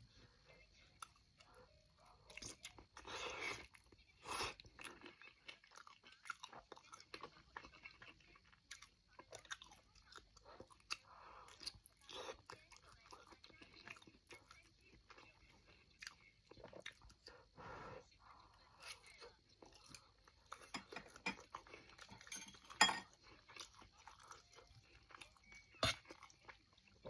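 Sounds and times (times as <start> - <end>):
person chewing food: 1.0 - 17.6, 18.4 - 27.0.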